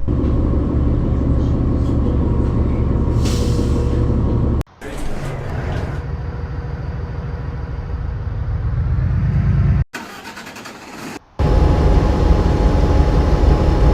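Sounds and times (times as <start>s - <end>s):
bus engine rumbling: 0.0s - 13.9s.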